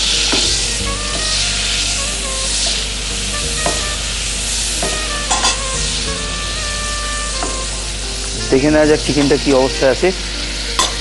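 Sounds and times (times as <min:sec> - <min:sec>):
background music: 0:00.0 - 0:11.0
garlic sizzling in hot oil: 0:00.0 - 0:11.0.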